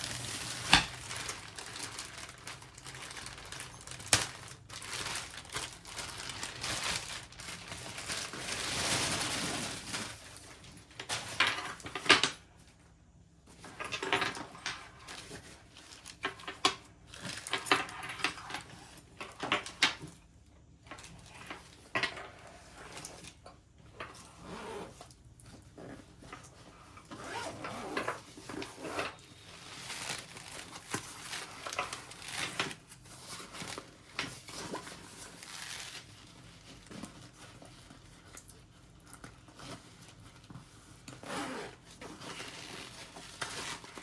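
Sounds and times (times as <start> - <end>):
packaging rustling and crinkling: 0.0 - 12.3, 13.6 - 20.3, 24.1 - 44.0.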